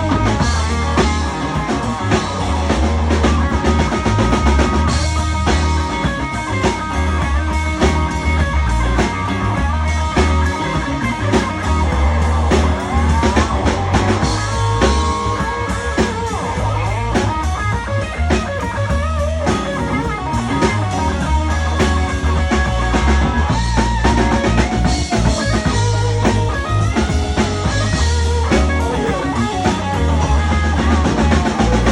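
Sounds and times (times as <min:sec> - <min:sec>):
bass guitar: 0:00.0 - 0:31.9
drum kit: 0:00.0 - 0:31.9
electric guitar solo: 0:00.0 - 0:31.9.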